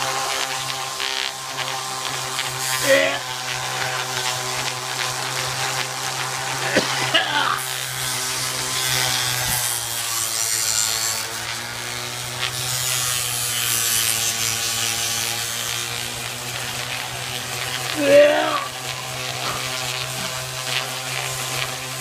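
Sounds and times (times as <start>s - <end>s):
orbital sander motor hum: 0.0s - 22.0s
sanding pad rubbing skin: 0.0s - 22.0s.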